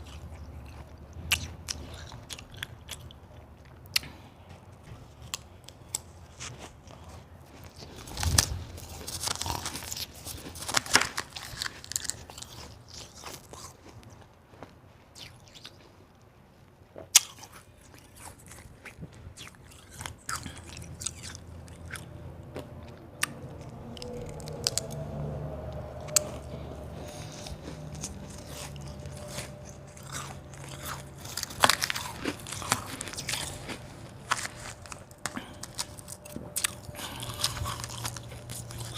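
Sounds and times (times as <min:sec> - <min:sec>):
ice crunching being chewed: 0:00.0 - 0:16.3, 0:16.9 - 0:38.9.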